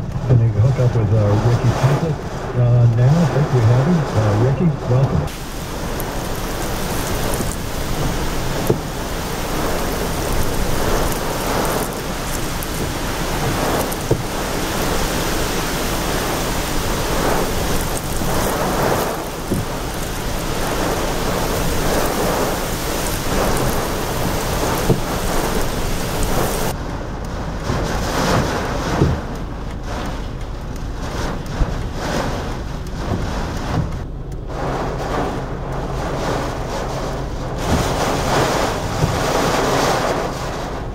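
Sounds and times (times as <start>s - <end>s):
wind and rain against a car: 0.0s - 40.9s.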